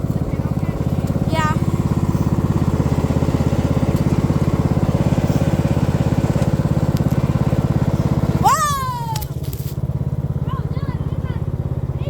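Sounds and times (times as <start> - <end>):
lawn mower engine puttering: 0.0 - 12.0.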